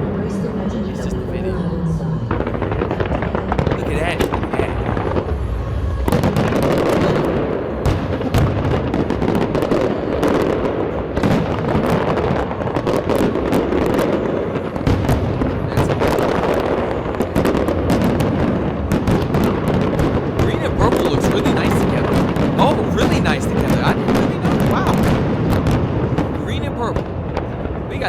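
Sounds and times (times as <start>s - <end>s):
fireworks bursts and crackles: 0.0s - 28.0s.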